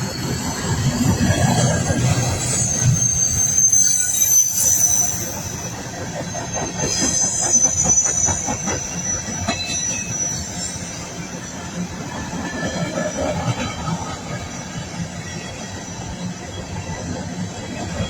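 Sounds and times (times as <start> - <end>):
train rumble: 0.0 - 18.0
train wheels squealing: 0.0 - 18.0.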